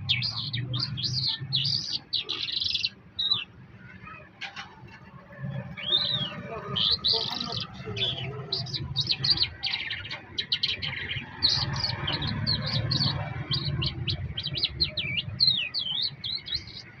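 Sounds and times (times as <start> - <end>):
songbird singing: 0.0 - 4.2, 5.0 - 17.0.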